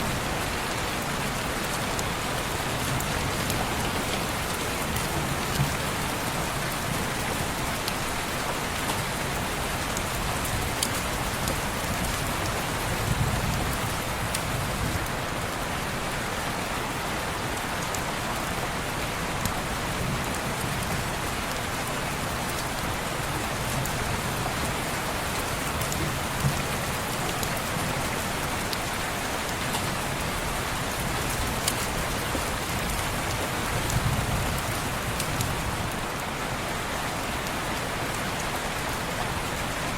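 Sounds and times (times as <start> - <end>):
rain against a window: 0.0 - 39.9.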